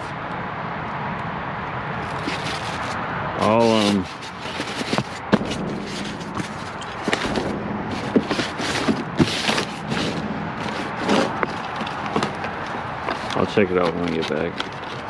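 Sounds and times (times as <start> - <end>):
box packaging rustling: 2.0 - 15.0.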